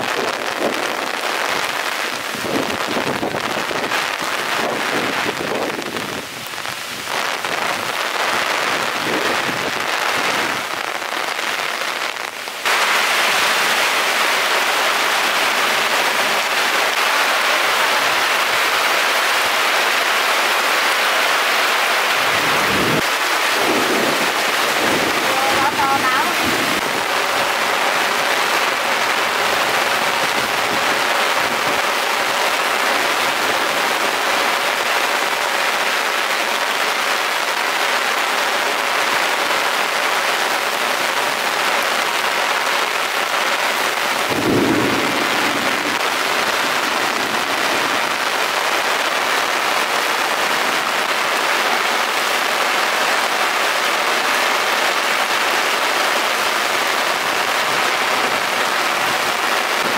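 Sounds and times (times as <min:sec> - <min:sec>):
rain pouring: 0:00.0 - 0:59.9.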